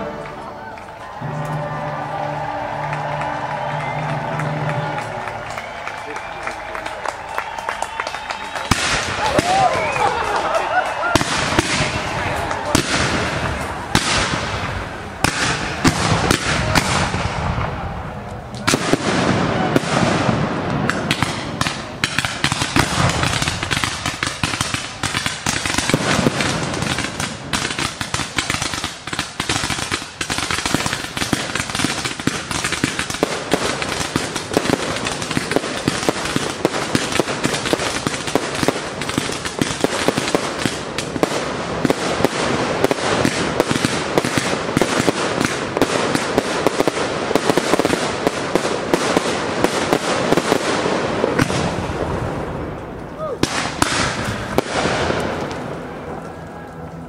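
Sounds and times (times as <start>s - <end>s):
fireworks pops bangs and crackles: 8.2s - 56.3s.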